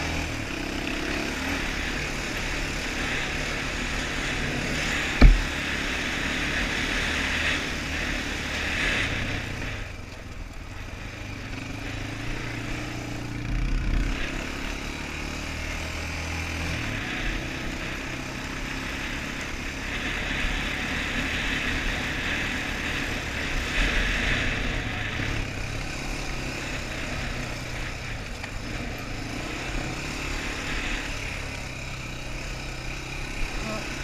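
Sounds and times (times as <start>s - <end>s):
quad bike engine running: 0.0s - 34.0s.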